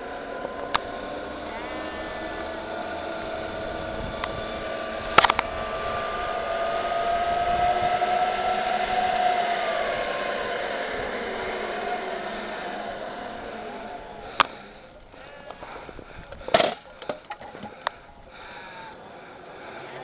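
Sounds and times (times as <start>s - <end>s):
zipline pulleys whining on cable: 0.0s - 20.0s.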